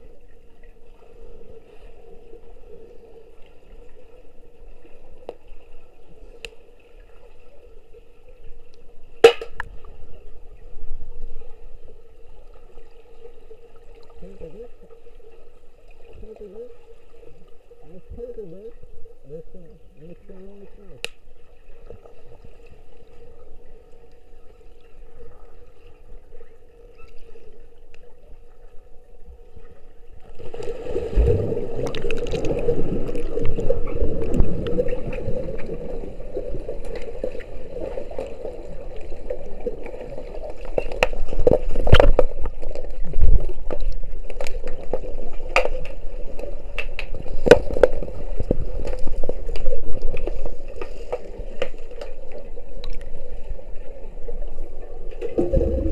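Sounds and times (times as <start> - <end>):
steady underwater hum: 0.0 - 55.9
water churning and bubbles: 0.0 - 55.9.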